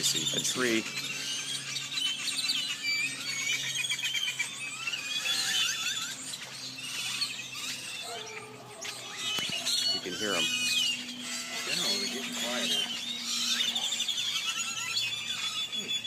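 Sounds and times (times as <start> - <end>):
flock of birds chirping: 0.0 - 16.0.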